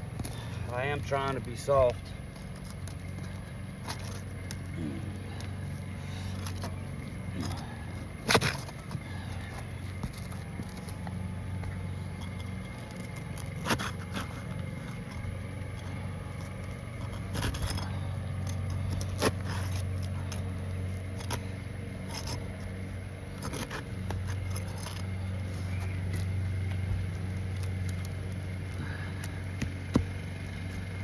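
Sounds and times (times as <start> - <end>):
shingles cracking and scraping: 0.0 - 31.0
steady low hum: 0.0 - 31.0.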